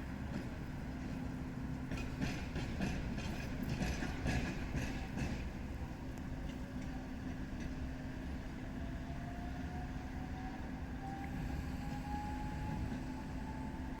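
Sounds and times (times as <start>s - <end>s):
tram running: 0.0s - 14.0s.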